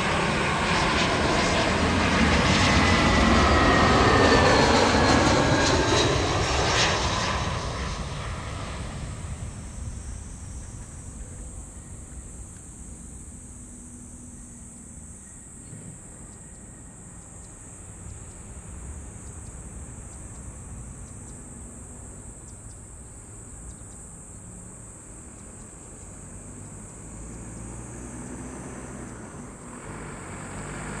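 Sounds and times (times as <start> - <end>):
distant jet engines rumbling: 0.0 - 31.0
insects buzzing: 0.0 - 31.0.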